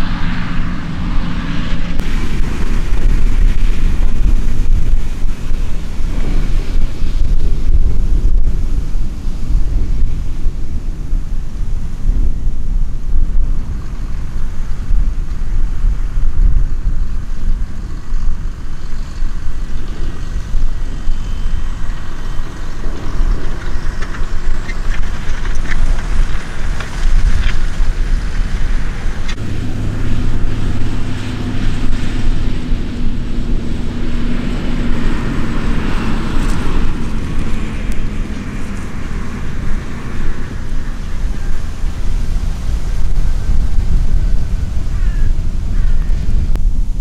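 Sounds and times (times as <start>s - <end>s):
diesel engines rumbling: 0.0s - 47.0s
tractor engine drone: 0.0s - 47.0s.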